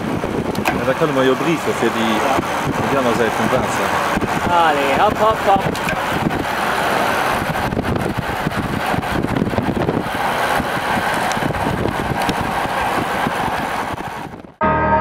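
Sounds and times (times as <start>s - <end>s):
moving car road and wind noise: 0.0s - 14.6s.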